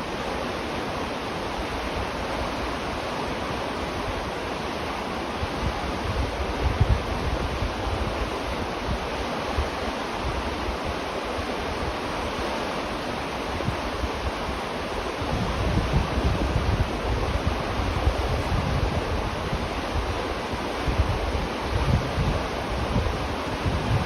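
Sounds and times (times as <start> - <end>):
river water flowing: 0.0 - 24.0
wind gusts on microphone: 0.0 - 24.0.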